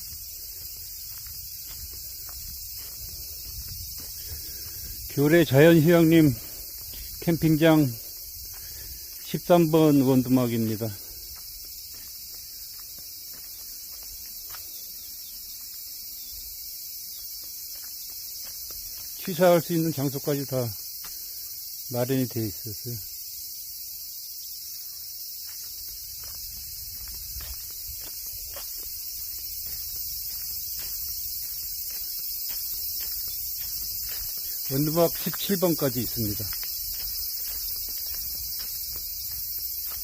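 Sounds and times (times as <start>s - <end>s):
insects chorus: 0.0s - 40.0s.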